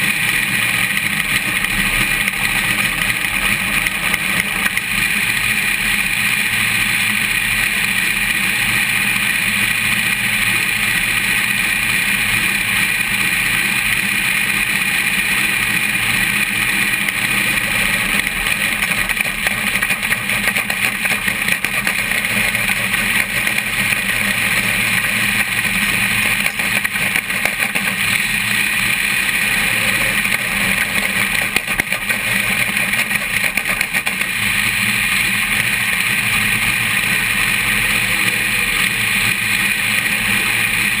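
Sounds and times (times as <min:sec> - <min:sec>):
race car roar: 0:00.0 - 0:41.0.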